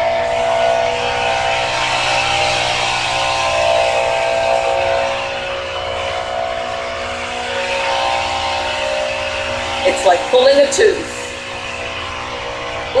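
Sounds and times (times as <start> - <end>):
machinery engine running under load: 0.0 - 13.0.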